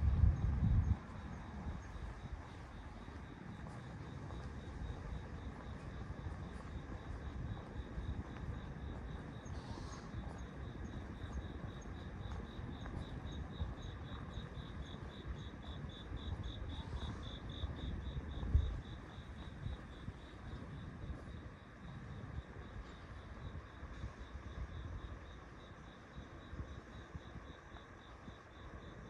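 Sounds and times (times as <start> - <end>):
low steady rumble: 0.0 - 25.0
cricket chirping: 0.0 - 29.0.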